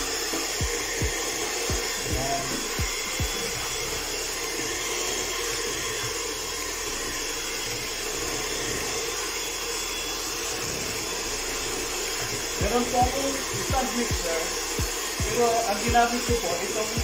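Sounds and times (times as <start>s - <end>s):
electric hand mixer running: 0.0s - 17.0s.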